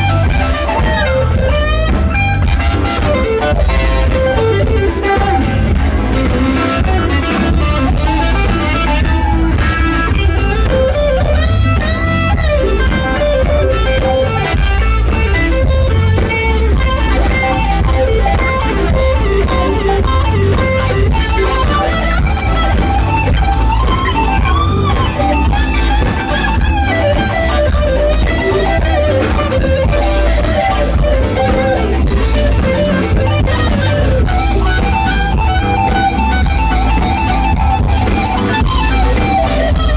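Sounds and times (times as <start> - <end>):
drum kit: 0.0 - 39.9
electric bass: 0.0 - 39.9
electric guitar bending notes: 0.0 - 39.9.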